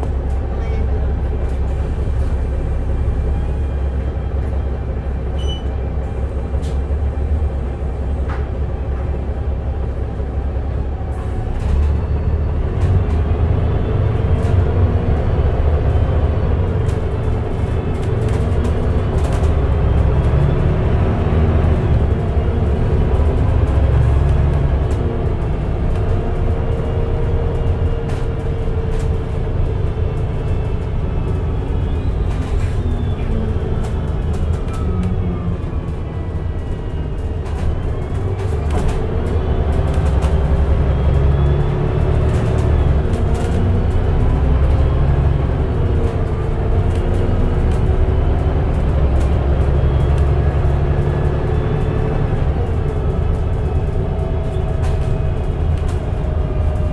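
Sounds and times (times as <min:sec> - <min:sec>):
bus engine drone: 0:00.0 - 0:56.9.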